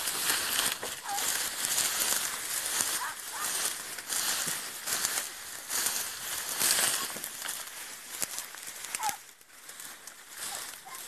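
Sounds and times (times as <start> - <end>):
dry grass swishing and crackling: 0.0 - 11.0.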